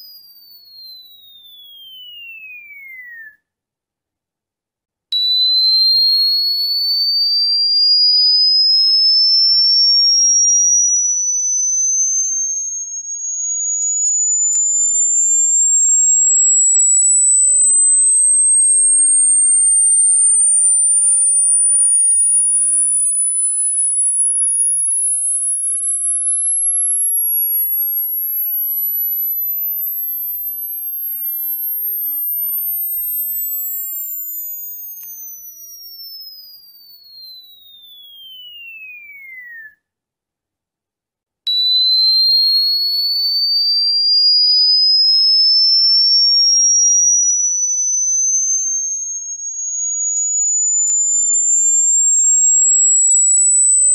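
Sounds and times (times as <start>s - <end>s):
sine tone sweeping upward: 0.0s - 3.2s, 8.7s - 39.6s, 44.3s - 53.9s.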